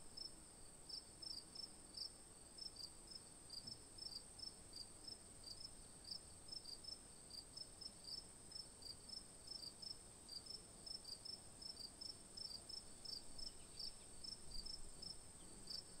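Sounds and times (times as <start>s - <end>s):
insect chirping: 0.2s - 16.0s.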